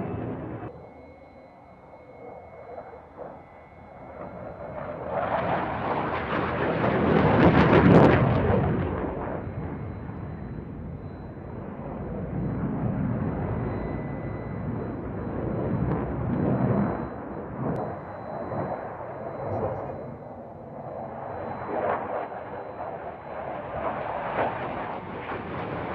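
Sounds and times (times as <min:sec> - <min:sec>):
aircraft roaring past: 0:00.0 - 0:00.7, 0:04.0 - 0:25.9.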